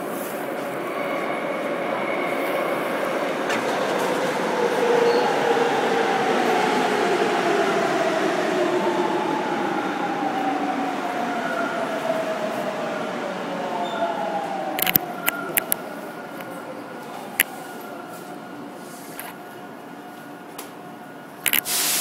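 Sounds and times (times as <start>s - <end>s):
subway train passing: 0.0s - 22.0s.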